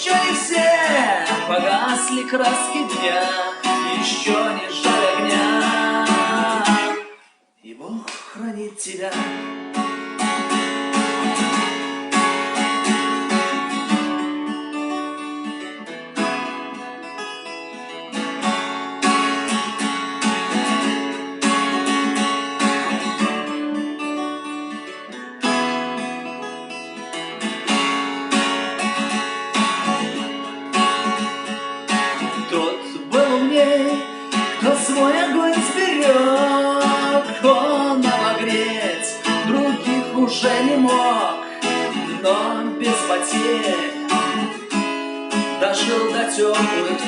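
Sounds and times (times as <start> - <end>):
acoustic guitar strumming chords: 0.0 - 7.4, 8.9 - 47.0.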